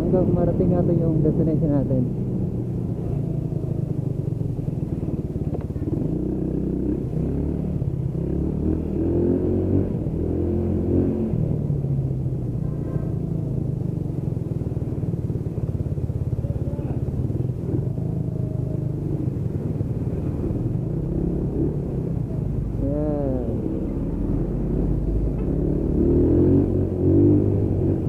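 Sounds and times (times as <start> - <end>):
motorcycle engine running: 0.0 - 28.0
muffled wind rumble: 0.0 - 28.0.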